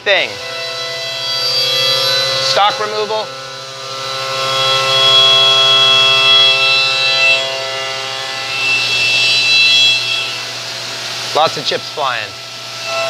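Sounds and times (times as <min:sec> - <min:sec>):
milling cutter whine: 0:00.0 - 0:13.0.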